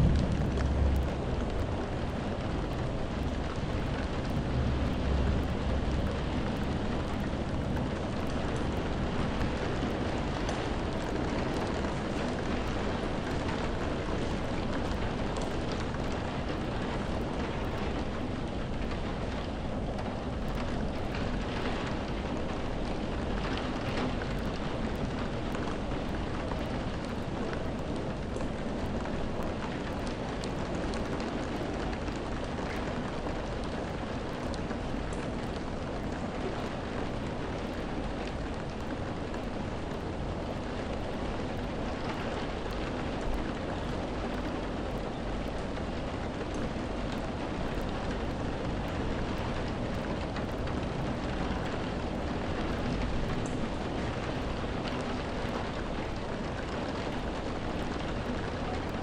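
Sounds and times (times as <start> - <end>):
raindrops tapping: 0.0 - 59.0
steady rain: 0.0 - 59.0.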